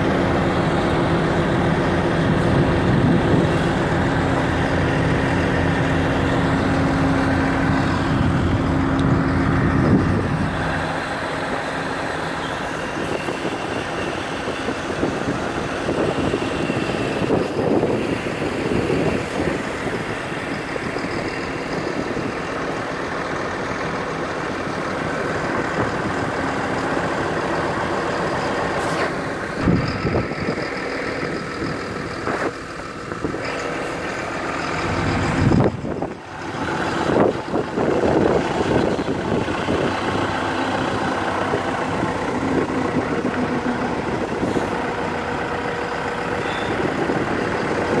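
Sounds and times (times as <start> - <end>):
excavator diesel engine idling: 0.0 - 48.0.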